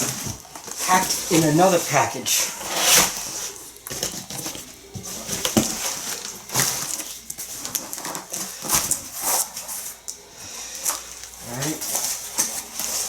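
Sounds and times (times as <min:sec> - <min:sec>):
packing material rustling: 0:00.0 - 0:13.0.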